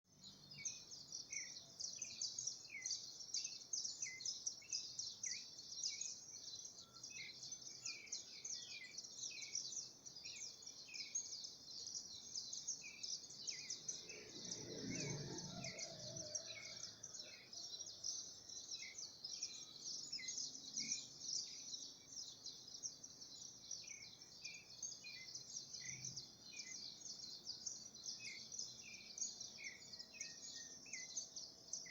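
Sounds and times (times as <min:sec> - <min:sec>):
high-pitched bird chirping chorus: 0:00.1 - 0:31.9.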